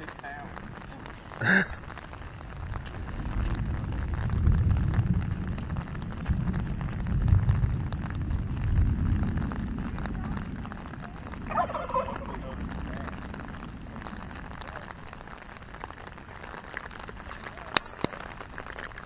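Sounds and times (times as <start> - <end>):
light rain ticks: 0.0 - 11.6, 12.2 - 19.0
wind buffeting microphone: 0.0 - 16.0.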